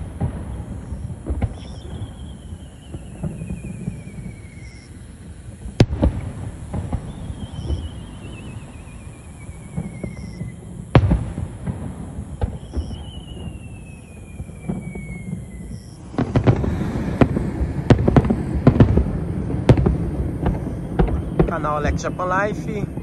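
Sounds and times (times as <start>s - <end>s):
fireworks pops: 0.0s - 5.0s, 5.6s - 23.0s
falling firework whistle: 0.0s - 23.0s
fireworks bangs and crackling: 0.0s - 23.0s.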